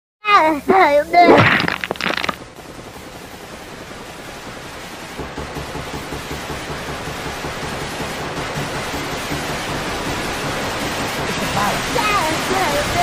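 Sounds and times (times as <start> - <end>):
steady rushing noise: 0.4 - 13.0.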